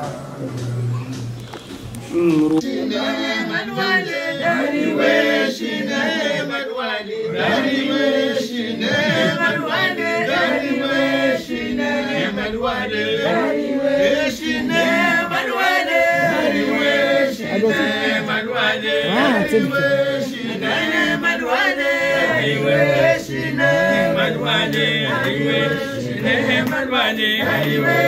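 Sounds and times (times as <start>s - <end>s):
group of voices chanting: 2.1s - 28.0s.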